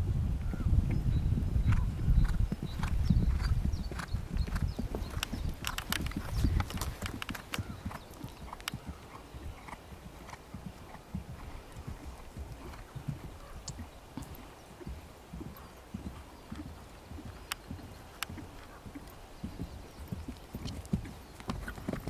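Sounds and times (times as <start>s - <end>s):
horse hoofbeats on turf: 2.2s - 22.0s.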